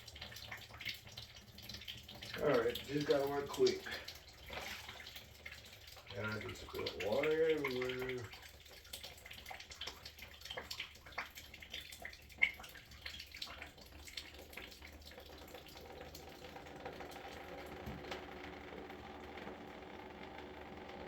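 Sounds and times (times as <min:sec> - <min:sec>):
faint water trickle: 0:00.0 - 0:21.0
water dripping and splashing: 0:00.0 - 0:21.0.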